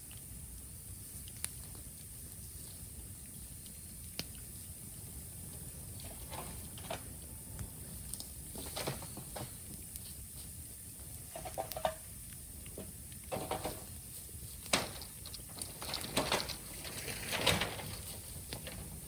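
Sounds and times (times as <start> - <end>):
bamboo burning with crackles: 0.0 - 19.0.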